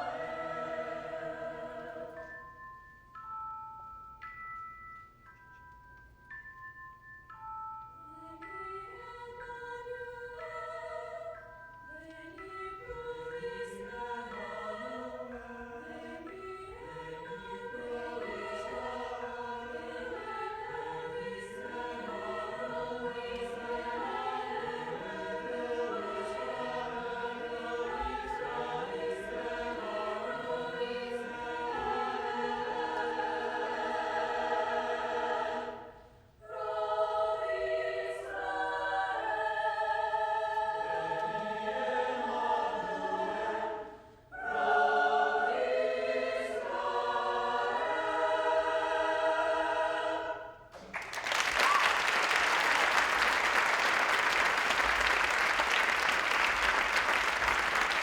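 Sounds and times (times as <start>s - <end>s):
choir singing in parts: 0.0s - 2.5s, 8.1s - 58.0s.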